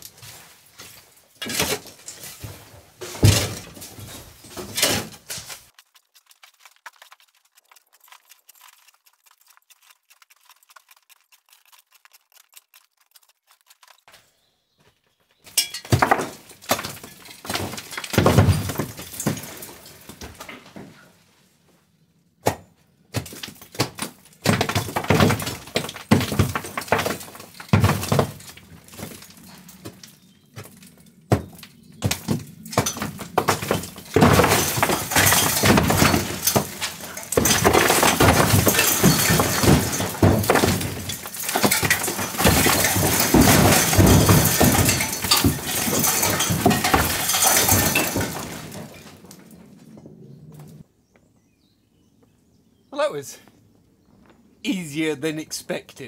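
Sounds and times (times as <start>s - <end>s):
rubble clattering: 0.0s - 14.2s, 15.4s - 21.1s, 23.1s - 50.8s.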